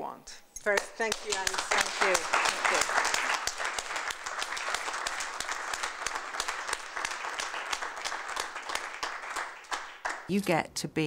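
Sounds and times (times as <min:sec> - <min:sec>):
small audience applauding: 0:00.7 - 0:10.3.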